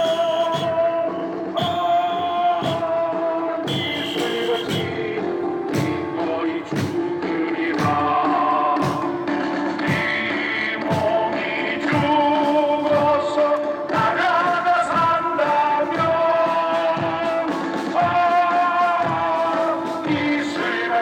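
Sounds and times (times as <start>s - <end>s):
person singing: 0.0s - 21.0s
steady drum beat: 0.0s - 21.0s.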